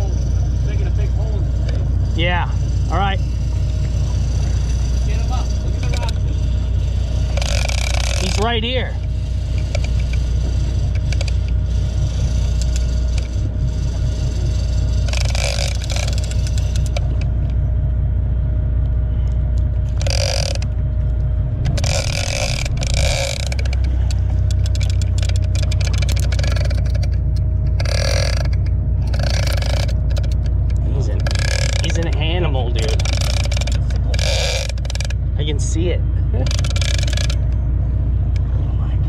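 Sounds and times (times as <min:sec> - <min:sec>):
boat engine idling: 0:00.0 - 0:39.0.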